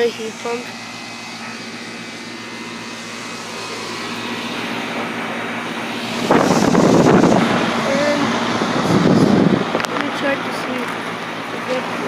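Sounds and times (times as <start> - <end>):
air conditioner unit humming: 0.0 - 12.0
loud rush of noise: 0.7 - 11.4.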